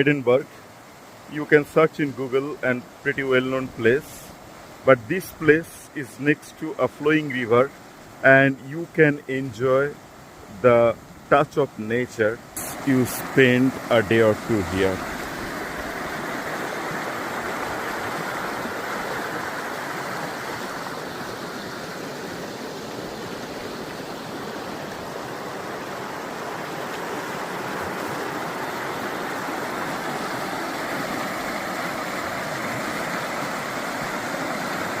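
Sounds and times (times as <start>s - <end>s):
river water flowing: 0.0s - 35.0s.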